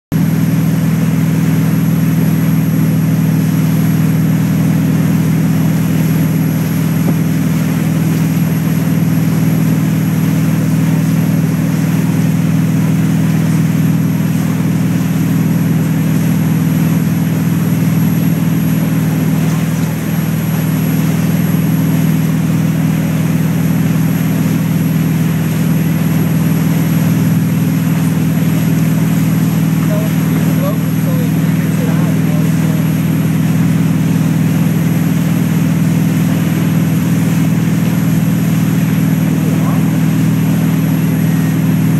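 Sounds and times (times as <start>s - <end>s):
boat engine droning: 0.1s - 41.9s
rushing water wake: 0.2s - 41.9s.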